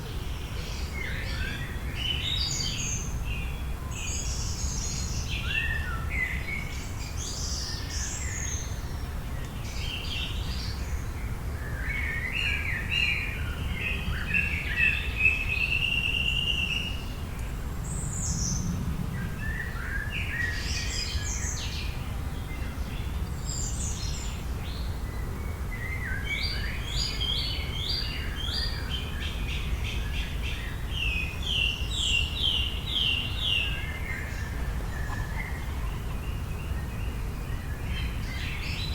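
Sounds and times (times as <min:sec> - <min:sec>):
wild birds singing: 0:00.0 - 0:38.9.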